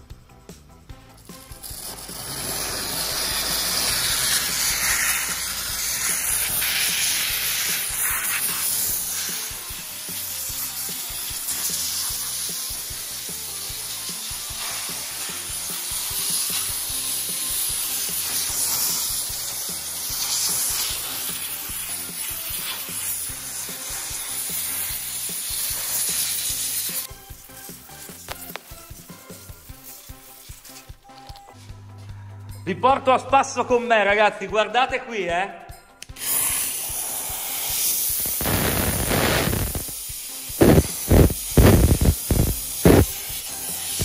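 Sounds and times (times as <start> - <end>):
steam cleaner hissing: 1.2 - 31.0, 36.2 - 44.0.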